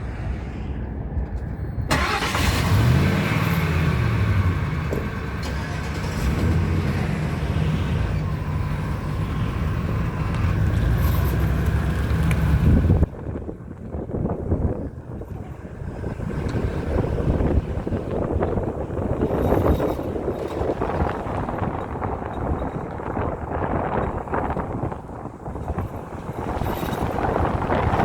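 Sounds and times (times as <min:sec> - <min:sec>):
pickup engine starting and running: 0:01.2 - 0:28.0.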